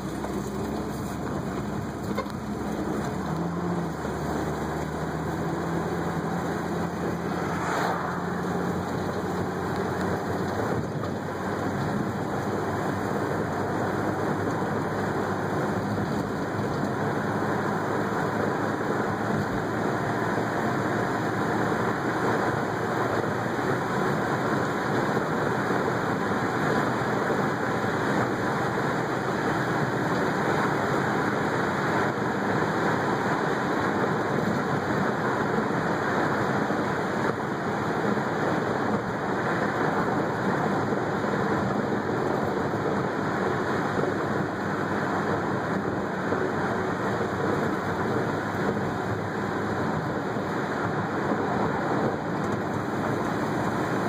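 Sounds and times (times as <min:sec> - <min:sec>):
in-cabin car driving noise: 0:00.0 - 0:54.0.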